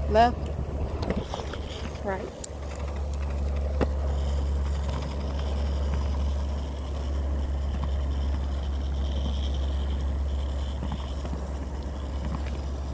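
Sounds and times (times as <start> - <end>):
roller skate wheels on concrete: 0.0 - 12.9.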